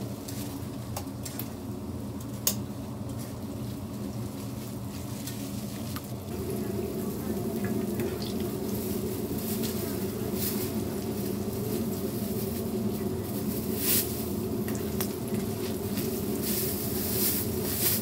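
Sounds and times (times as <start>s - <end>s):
dough sizzling in hot oil: 0.0s - 18.0s
steady low hum: 0.0s - 18.0s.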